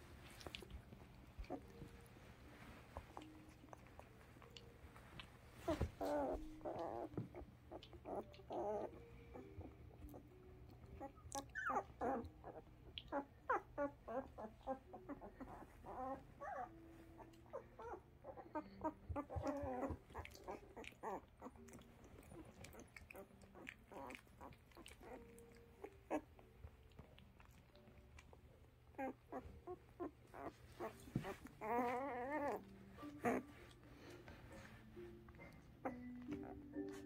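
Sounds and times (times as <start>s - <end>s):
puppies squeaking and whimpering: 0.2s - 37.0s.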